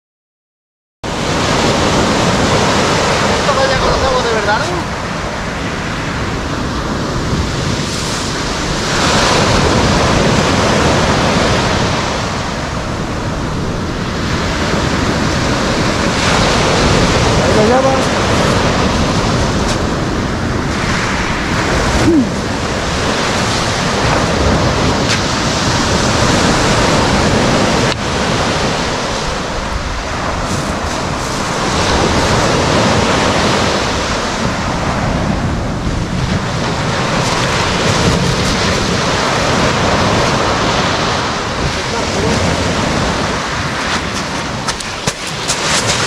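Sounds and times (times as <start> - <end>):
small waves on pebble beach: 1.1 - 46.0.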